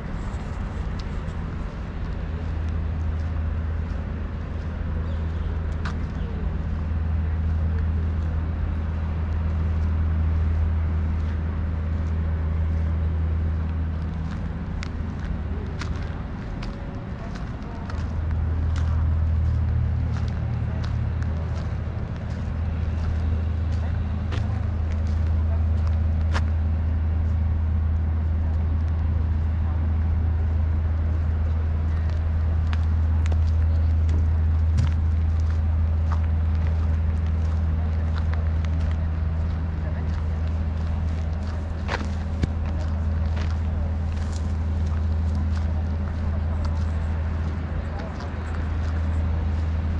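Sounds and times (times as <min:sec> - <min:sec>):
distant traffic rumble: 0:00.0 - 0:49.9
low engine hum: 0:00.0 - 0:49.9.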